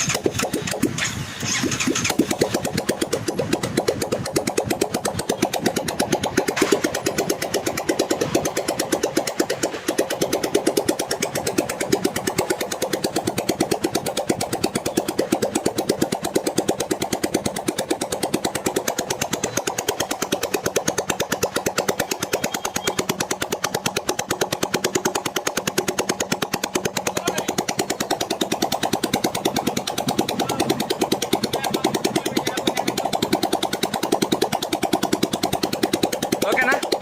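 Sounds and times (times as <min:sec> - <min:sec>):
motorcycle engine open exhaust pops: 0:00.0 - 0:37.0.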